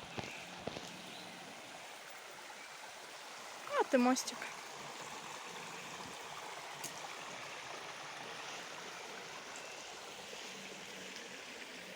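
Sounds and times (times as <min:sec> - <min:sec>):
running water: 0:00.0 - 0:11.9.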